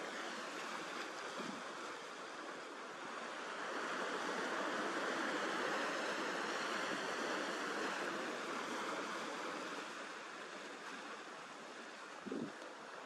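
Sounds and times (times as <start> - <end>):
sea surf washing: 0.0 - 13.0.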